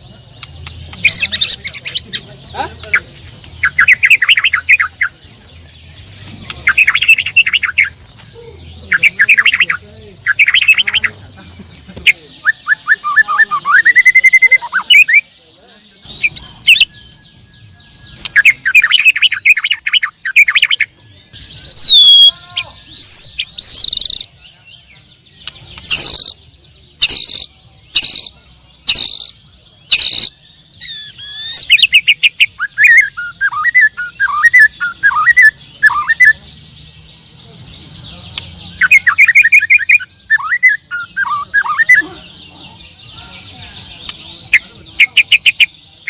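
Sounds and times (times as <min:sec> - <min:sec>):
sharp harsh bird notes: 0:00.0 - 0:15.4, 0:16.0 - 0:46.0
songbirds singing: 0:00.0 - 0:46.0.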